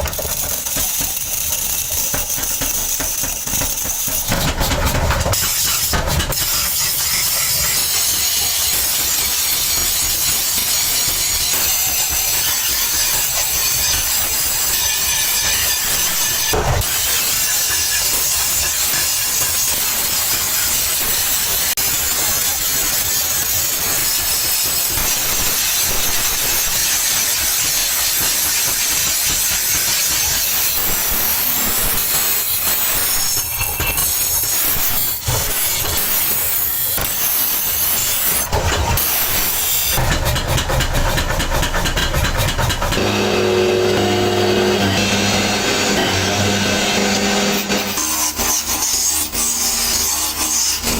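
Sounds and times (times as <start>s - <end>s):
harsh hissing workshop noise: 0.0s - 50.9s.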